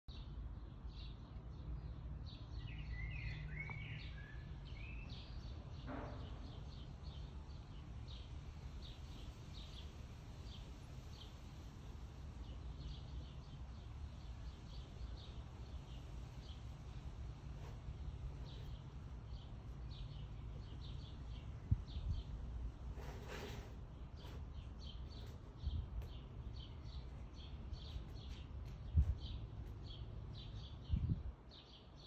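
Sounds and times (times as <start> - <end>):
bird chirping: 0.1 - 11.4, 12.4 - 32.0.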